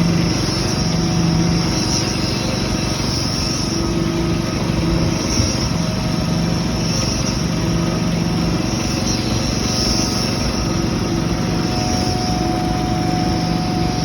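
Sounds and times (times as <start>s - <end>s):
diesel engine running: 0.0s - 14.0s
high whine: 0.0s - 14.0s.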